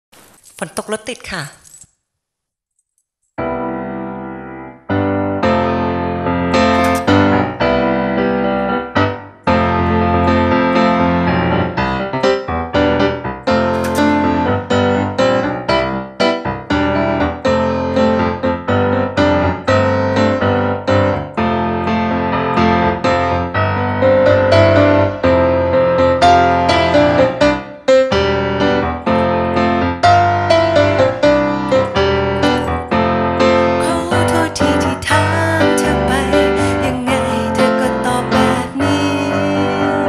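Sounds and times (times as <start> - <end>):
piano chords and melody: 3.4 - 40.0.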